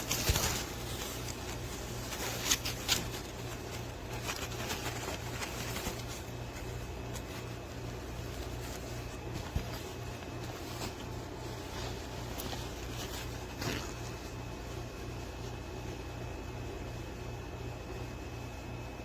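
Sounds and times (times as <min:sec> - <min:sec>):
soft handling clicks and rustles: 0:00.0 - 0:17.3
steady low hum: 0:00.0 - 0:19.0.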